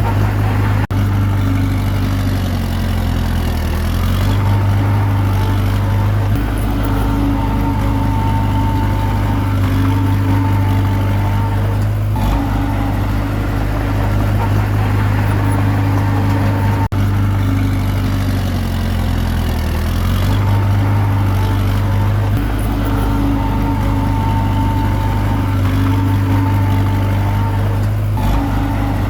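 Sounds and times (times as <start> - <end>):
bulldozer diesel engine running: 0.0 - 29.0
high whine: 0.0 - 29.0.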